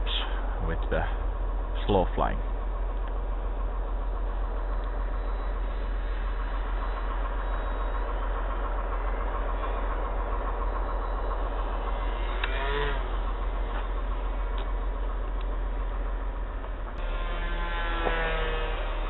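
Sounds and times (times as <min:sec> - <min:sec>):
low rumble: 0:00.0 - 0:19.0
model plane motor drone: 0:03.0 - 0:19.0.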